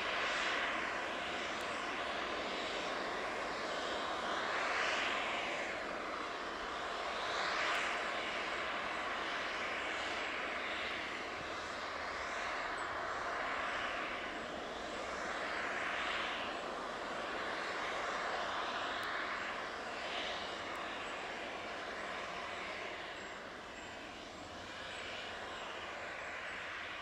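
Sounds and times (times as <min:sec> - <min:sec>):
distant aircraft engine roar: 0:00.0 - 0:27.0.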